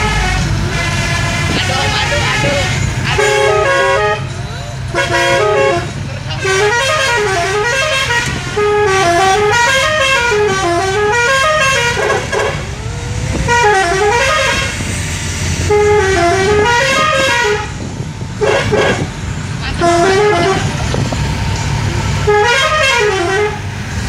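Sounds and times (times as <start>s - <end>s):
musical vehicle horn tune: 0.0s - 12.8s, 13.4s - 14.8s, 15.6s - 17.8s, 18.4s - 19.1s, 19.7s - 20.8s, 22.2s - 23.7s
low engine rumble: 0.0s - 24.0s.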